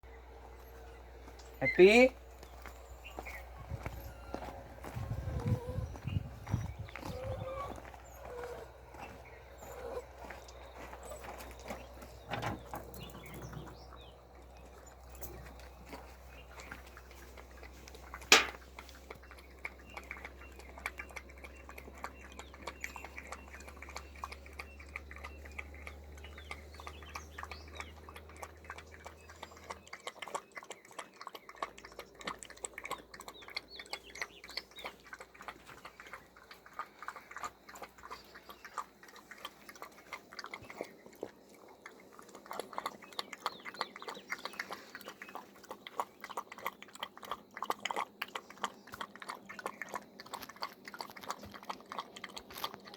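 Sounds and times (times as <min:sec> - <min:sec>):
puppy lapping milk: 0:00.3 - 0:52.9.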